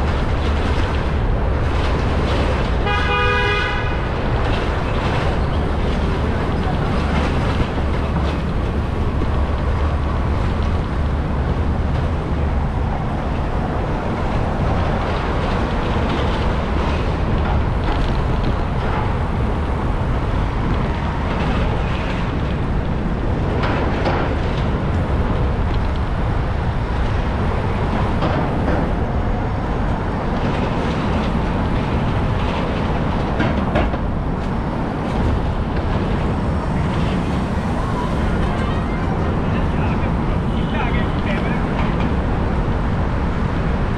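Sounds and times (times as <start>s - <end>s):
city street traffic rumble: 0.0s - 43.9s.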